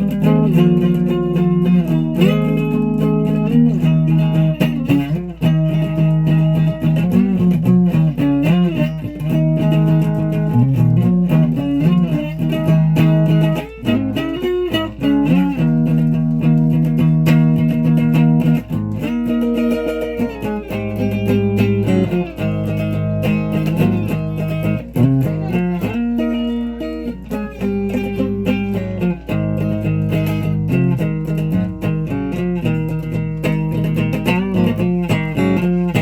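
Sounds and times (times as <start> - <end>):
electric guitar playing: 0.0 - 36.0.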